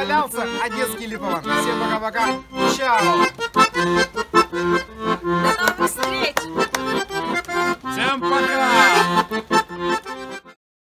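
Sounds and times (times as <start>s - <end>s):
accordion playing lively tune: 0.0s - 10.6s.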